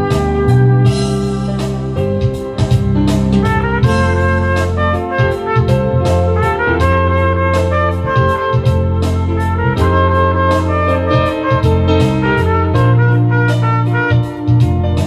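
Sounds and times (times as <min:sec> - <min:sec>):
backing track with bass and beat: 0:00.0 - 0:15.0
trumpet melody: 0:00.0 - 0:15.0.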